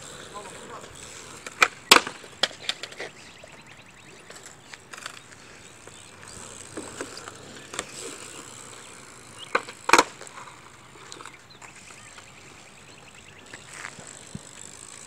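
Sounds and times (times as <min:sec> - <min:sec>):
bike freewheel ticking: 0:00.0 - 0:15.0
bike rolling on asphalt: 0:00.0 - 0:15.0.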